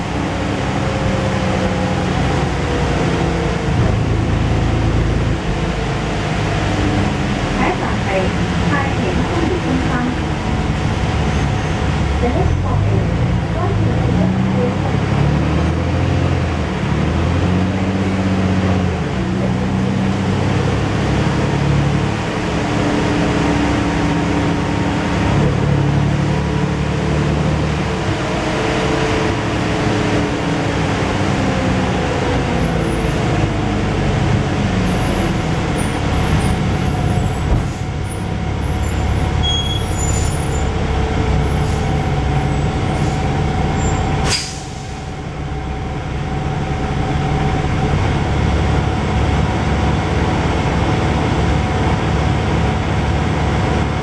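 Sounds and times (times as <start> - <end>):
bus diesel engine and transmission: 0.0 - 54.0.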